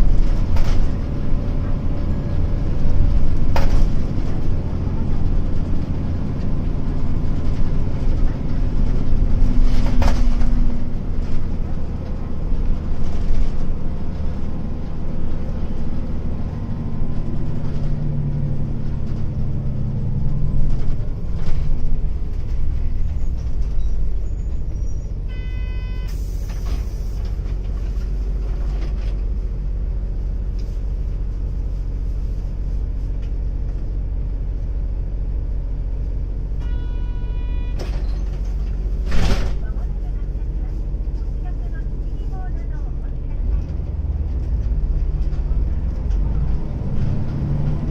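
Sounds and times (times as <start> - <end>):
bus diesel engine: 0.0 - 47.9.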